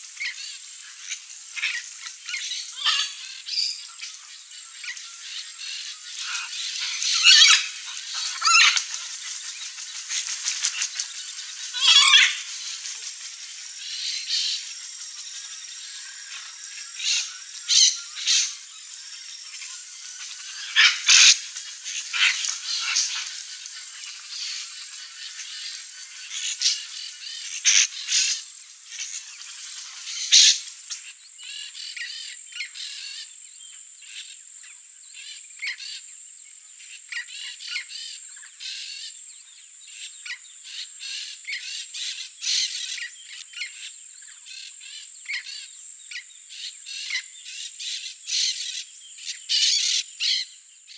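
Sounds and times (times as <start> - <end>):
parakeets calling: 0.0 - 12.9, 13.5 - 33.3, 39.9 - 50.7
steady high-pitched whine: 0.0 - 49.5.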